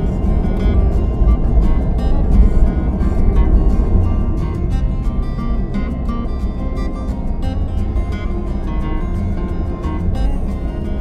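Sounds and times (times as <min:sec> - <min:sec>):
car driving rumble: 0:00.0 - 0:11.0
music with steady beat: 0:00.0 - 0:11.0.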